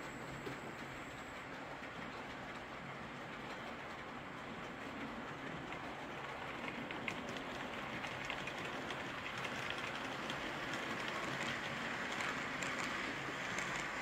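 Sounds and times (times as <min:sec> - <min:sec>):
model train rattling on track: 0:00.0 - 0:14.0.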